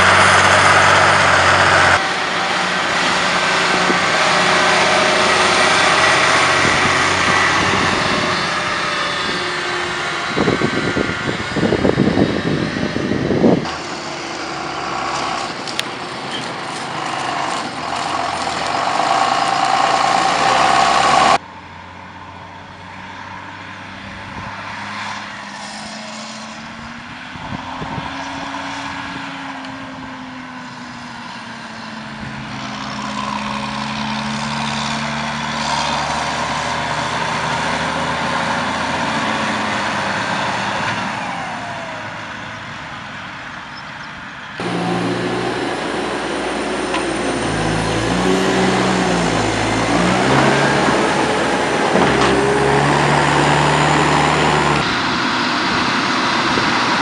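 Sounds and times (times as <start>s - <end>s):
telehandler diesel revving: 0.0s - 21.4s, 22.8s - 57.0s
tractor diesel engine passing: 0.0s - 57.0s.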